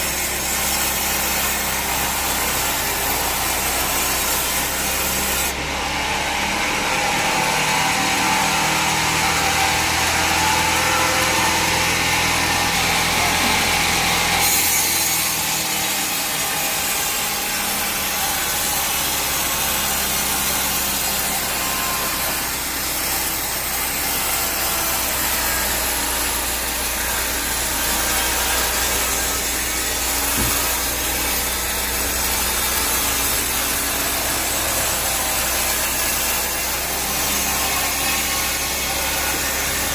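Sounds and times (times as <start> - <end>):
saw cutting timber: 0.0 - 39.9.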